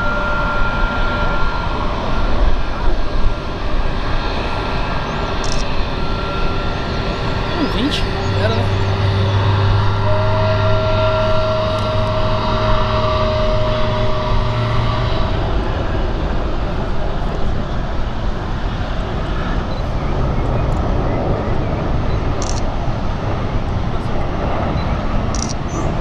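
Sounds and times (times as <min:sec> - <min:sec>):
engine whining tones: 0:00.0 - 0:26.0
jet engines running: 0:00.0 - 0:26.0.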